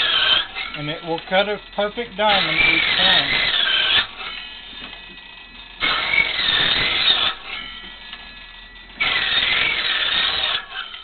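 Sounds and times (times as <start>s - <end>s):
saw cutting wood: 0.0s - 8.3s, 9.0s - 11.0s
saw blade spinning freely: 0.0s - 11.0s.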